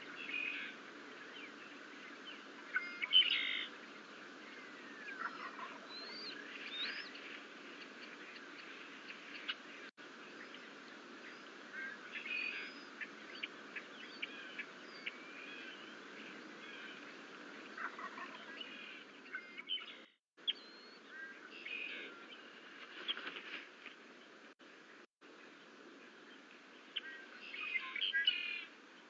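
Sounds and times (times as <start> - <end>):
birds chirping and calling: 0.0 - 23.6, 26.2 - 28.8
steady background hiss: 0.0 - 29.0.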